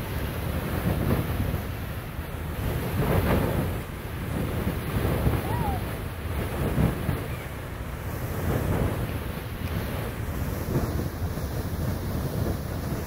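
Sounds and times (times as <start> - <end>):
geyser water jet rushing: 0.0 - 13.0
wind buffeting microphone: 0.0 - 13.0.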